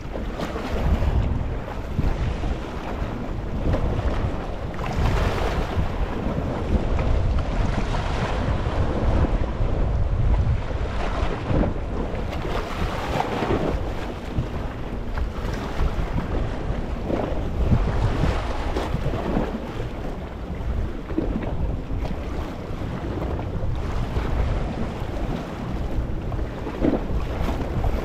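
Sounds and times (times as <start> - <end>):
small waves over rocky shore: 0.0 - 28.0
wind rumbling on microphone: 0.0 - 28.0.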